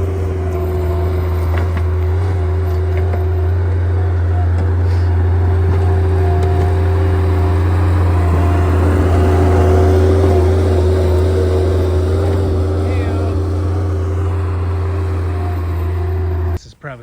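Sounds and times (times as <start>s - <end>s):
engine hum with whine: 0.0s - 16.6s.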